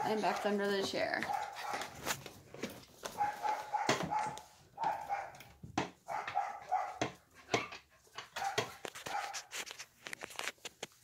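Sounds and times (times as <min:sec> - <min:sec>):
scuffing and knocking: 0:00.0 - 0:09.3.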